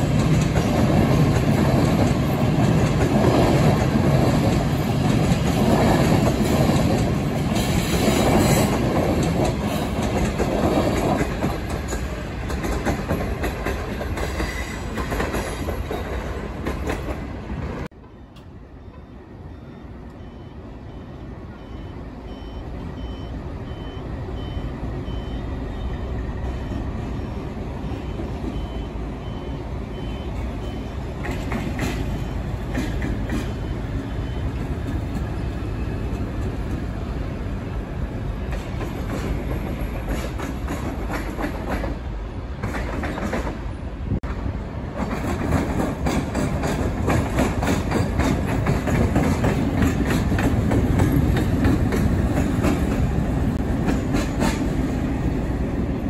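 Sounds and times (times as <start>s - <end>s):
train rumbling on tracks: 0.0s - 56.0s.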